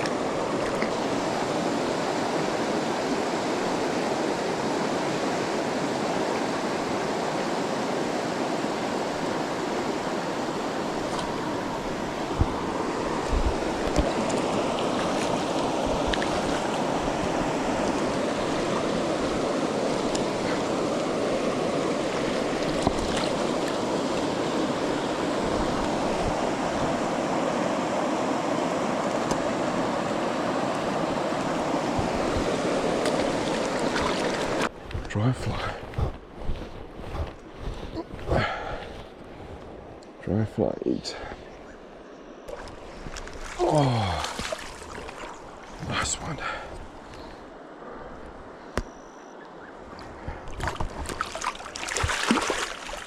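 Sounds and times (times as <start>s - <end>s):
river water over rocks: 0.0s - 35.4s, 41.8s - 48.8s, 49.8s - 53.0s.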